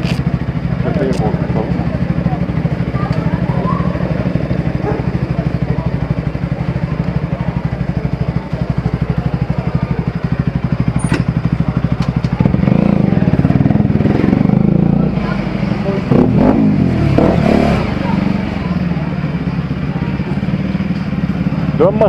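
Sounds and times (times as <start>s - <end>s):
motorcycle engine idling: 0.0s - 22.0s
motorcycle engine revving: 0.0s - 22.0s.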